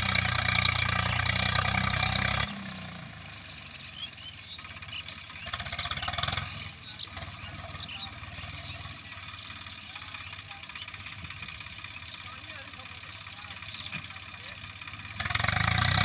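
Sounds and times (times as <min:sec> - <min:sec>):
tractor engine pulsing: 0:00.0 - 0:16.0.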